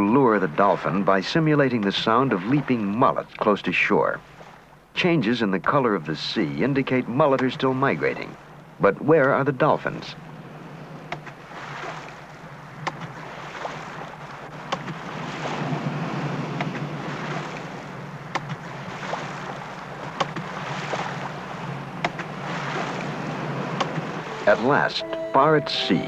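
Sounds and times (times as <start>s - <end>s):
surf washing onto beach: 0.0s - 26.0s.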